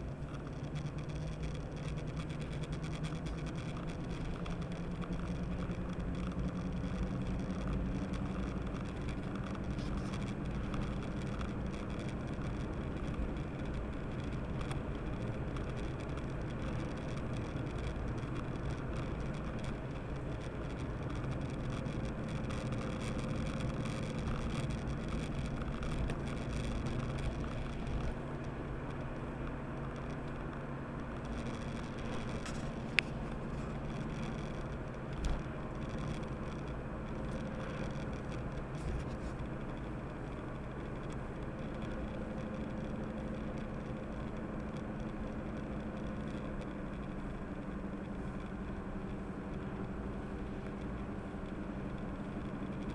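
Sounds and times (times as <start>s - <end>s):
car engine hum: 0.0s - 52.9s
tyre noise on wet road: 0.0s - 52.9s.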